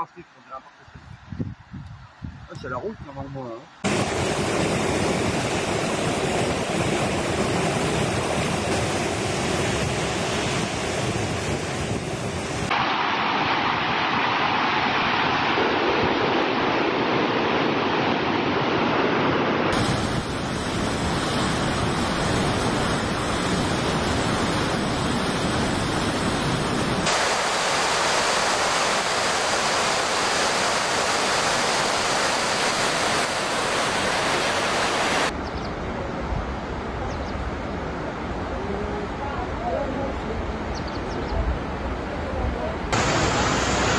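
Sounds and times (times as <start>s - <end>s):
river rushing in rapids: 3.8s - 36.9s, 41.5s - 43.9s.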